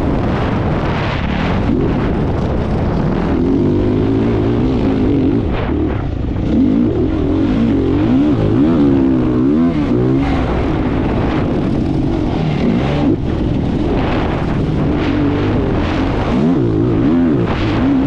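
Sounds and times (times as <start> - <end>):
engine revving and changing gear: 0.0 - 18.0.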